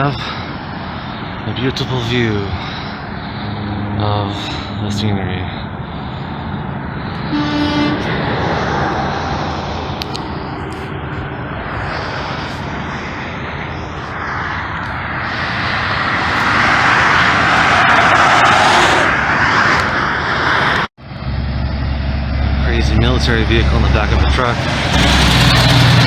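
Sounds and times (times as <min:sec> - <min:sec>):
vehicle passing close by: 0:02.3 - 0:26.0.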